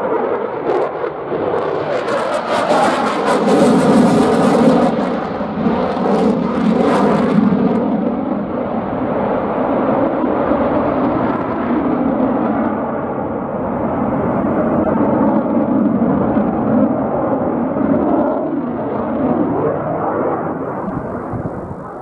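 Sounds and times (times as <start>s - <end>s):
jet afterburner roar: 0.0s - 22.0s.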